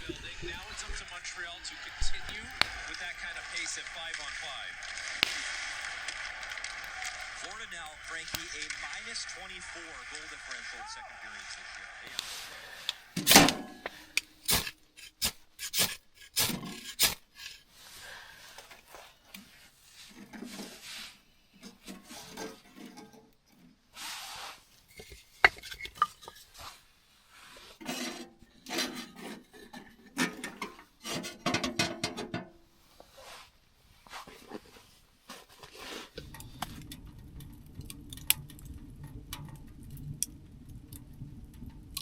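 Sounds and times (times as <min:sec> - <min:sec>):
scraping and rubbing: 0:00.0 - 0:10.9, 0:12.0 - 0:31.8, 0:32.8 - 0:42.0.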